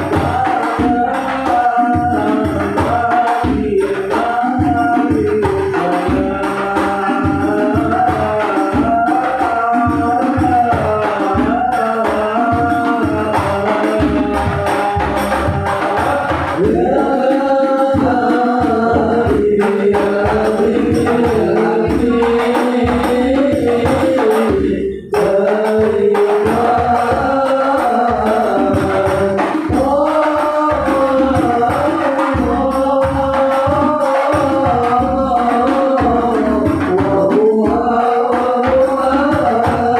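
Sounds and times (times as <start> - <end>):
devotional song singing: 0.0 - 39.9
frame drum beating rhythm: 0.0 - 39.9.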